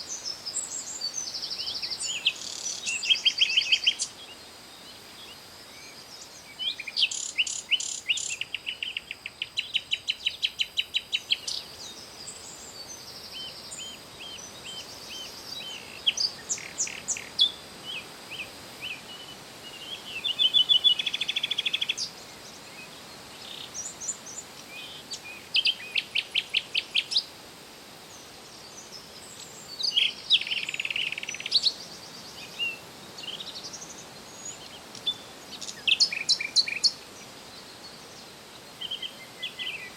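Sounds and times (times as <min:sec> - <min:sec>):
faint steady hiss: 0:00.0 - 0:39.9
songbirds singing and chirping: 0:00.0 - 0:39.9.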